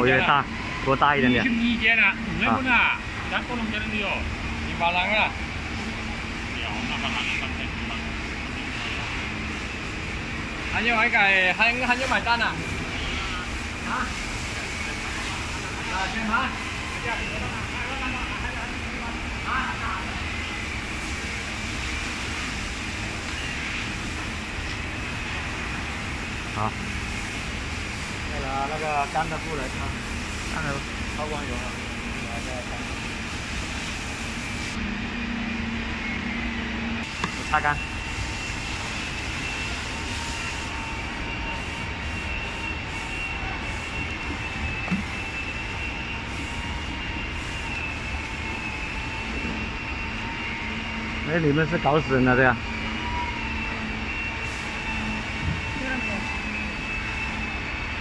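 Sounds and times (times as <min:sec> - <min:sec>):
background hum and hiss: 0:00.0 - 0:53.3
workshop machinery whine: 0:00.0 - 0:58.0.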